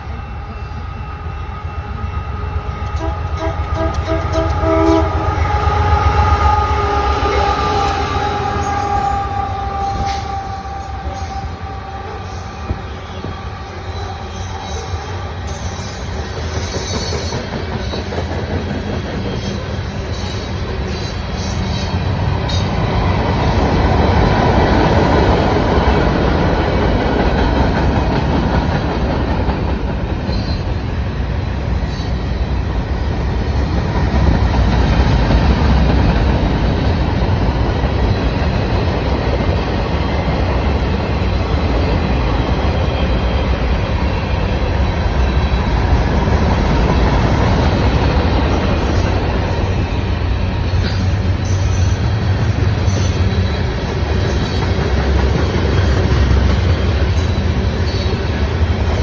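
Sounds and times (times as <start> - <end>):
freight train rumbling on rails: 0.0 - 59.0.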